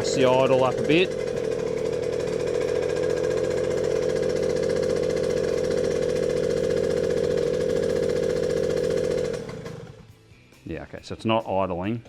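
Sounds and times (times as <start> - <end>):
small two-stroke engine running: 0.0 - 10.4.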